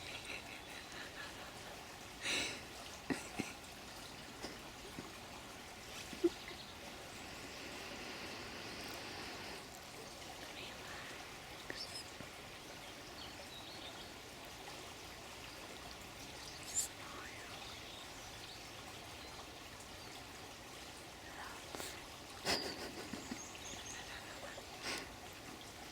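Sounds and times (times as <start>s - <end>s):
water trickling: 0.0s - 25.9s.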